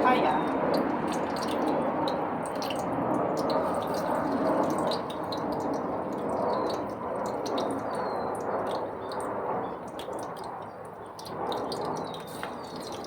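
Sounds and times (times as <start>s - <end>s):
deep-frying sizzle with crackles: 0.0s - 13.0s.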